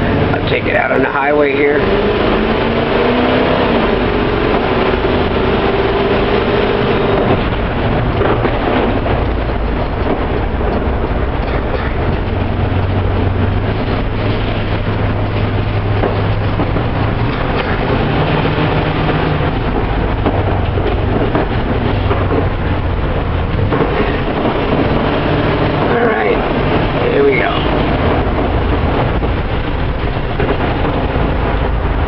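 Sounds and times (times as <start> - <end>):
road noise: 0.0 - 32.0
van engine running: 0.0 - 32.0.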